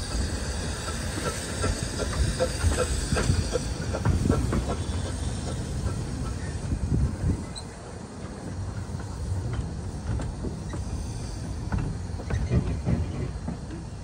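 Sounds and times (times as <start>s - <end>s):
miniature train rumbling: 0.0s - 14.0s.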